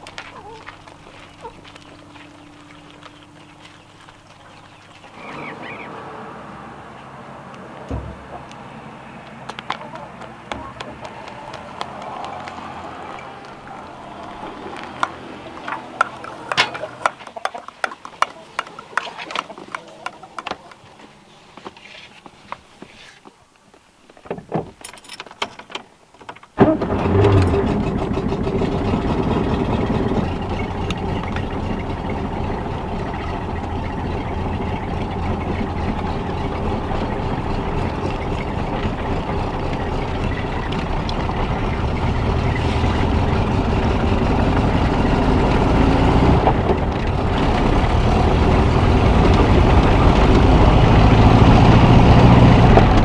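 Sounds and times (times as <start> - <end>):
car engine pulling away: 0.0 - 17.4, 26.6 - 53.0.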